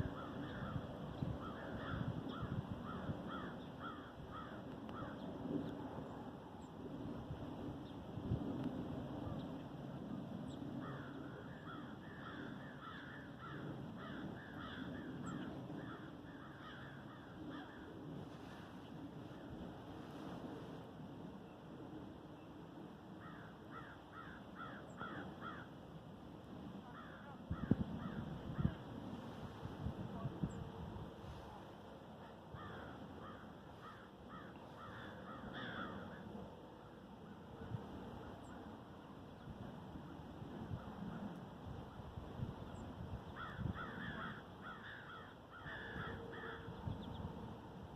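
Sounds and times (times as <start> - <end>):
faint outdoor background noise: 0.0 - 47.9
steady low background noise: 0.0 - 47.9.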